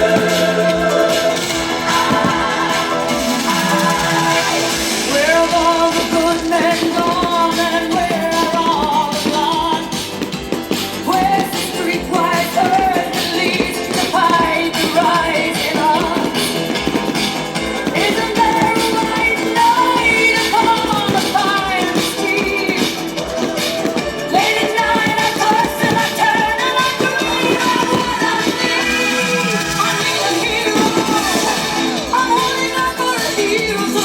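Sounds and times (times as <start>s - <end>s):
person singing: 0.0s - 10.3s, 11.0s - 34.0s
band playing: 0.0s - 34.0s.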